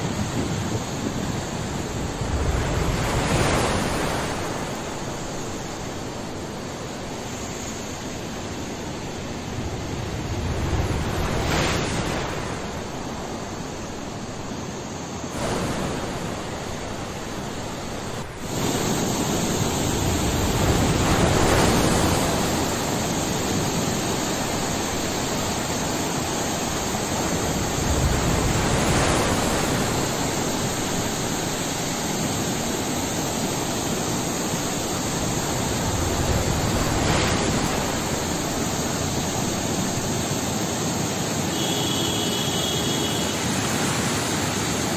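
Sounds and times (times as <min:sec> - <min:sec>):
floodwater rushing over a wall: 0:00.0 - 0:14.5, 0:15.3 - 0:44.9.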